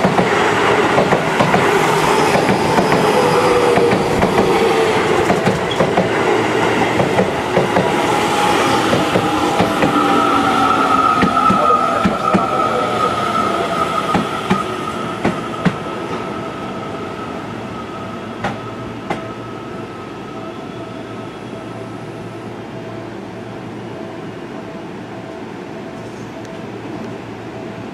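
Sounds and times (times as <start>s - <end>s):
electric train whine: 0.0s - 27.9s.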